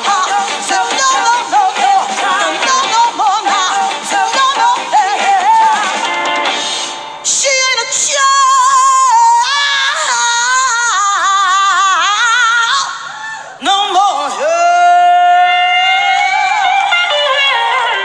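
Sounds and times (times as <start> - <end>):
woman singing soul: 0.0 - 6.1, 7.3 - 18.0.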